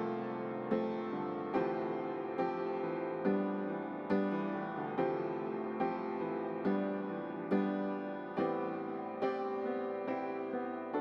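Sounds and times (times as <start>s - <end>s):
gentle piano chords: 0.0s - 11.0s.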